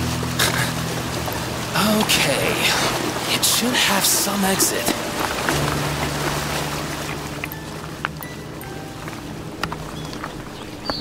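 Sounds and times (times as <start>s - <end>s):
background music with drone: 0.0s - 11.0s.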